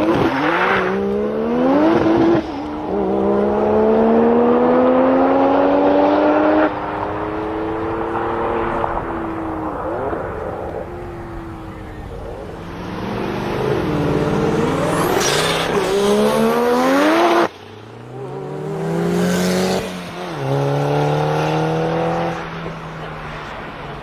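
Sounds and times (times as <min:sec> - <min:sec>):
rotary engine accelerating hard: 0:00.0 - 0:23.4.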